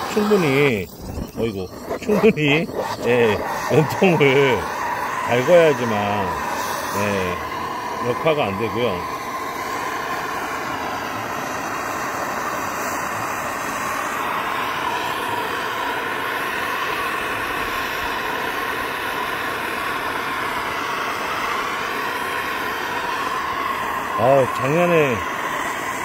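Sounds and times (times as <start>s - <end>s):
gas torch hissing: 0.0s - 26.0s.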